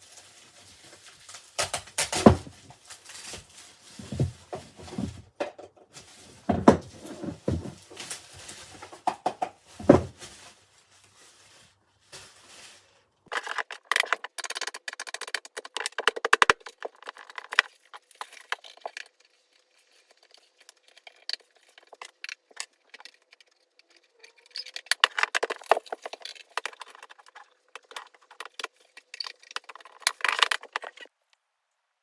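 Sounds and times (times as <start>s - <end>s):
small hard objects clattering: 0.0s - 31.2s.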